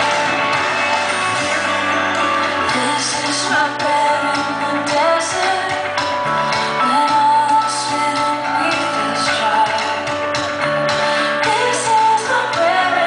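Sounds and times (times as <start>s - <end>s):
held instrumental chords: 0.0s - 13.0s
person singing: 2.2s - 13.0s.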